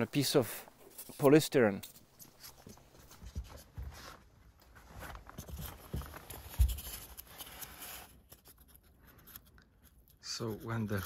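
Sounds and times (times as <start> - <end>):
scratching rustling handling noises: 0.1 - 11.0.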